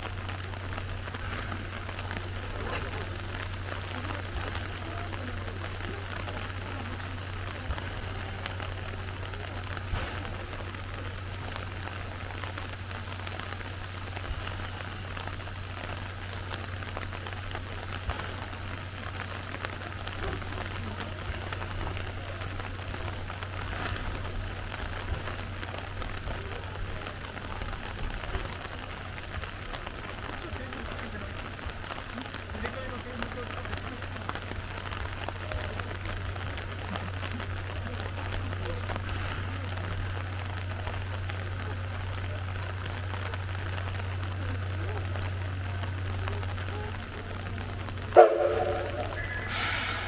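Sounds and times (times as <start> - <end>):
steam escaping from locomotive: 0.0 - 41.5, 42.9 - 50.0
rain hissing: 0.0 - 50.0.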